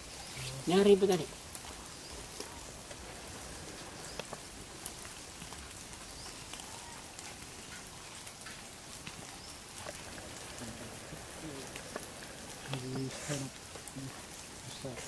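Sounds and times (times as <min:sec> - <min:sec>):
small ticks and crackles: 0:00.0 - 0:15.0
steady hiss: 0:00.0 - 0:15.0.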